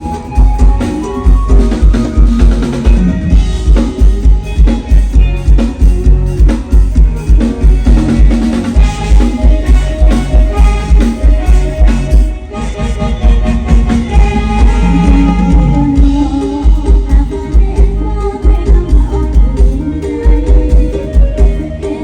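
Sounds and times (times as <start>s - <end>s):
instrumental band music: 0.0s - 22.0s
loud bass drum beat: 0.0s - 22.0s.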